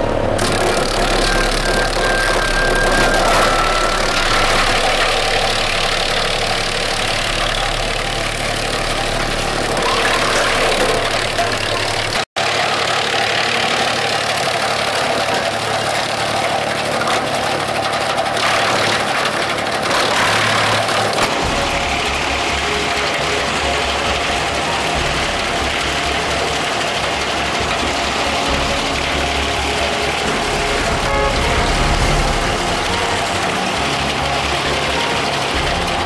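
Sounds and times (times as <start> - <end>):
wood chipper chipping branches: 0.0 - 36.0.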